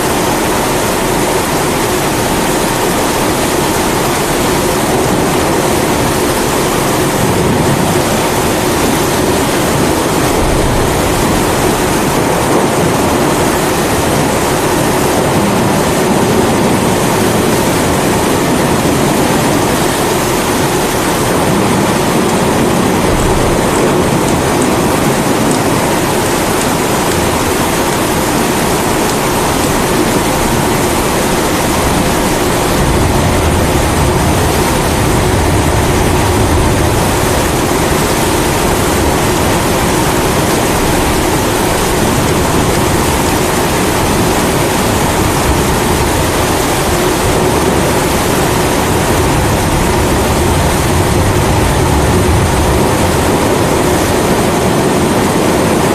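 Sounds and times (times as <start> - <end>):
low thunder rumble: 0.0 - 55.8
steady rain: 0.0 - 55.9.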